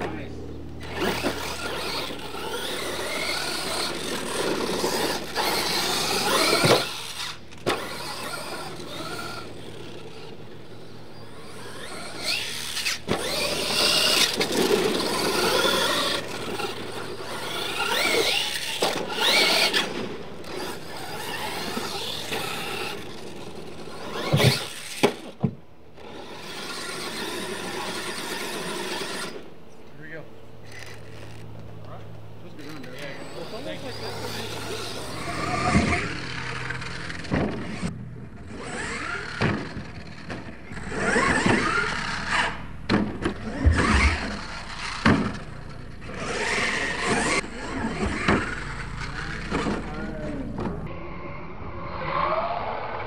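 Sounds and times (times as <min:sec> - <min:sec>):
tyres scrabbling through dirt: 0:00.0 - 0:50.9
toy truck motor whining: 0:00.7 - 0:29.5, 0:30.6 - 0:50.7.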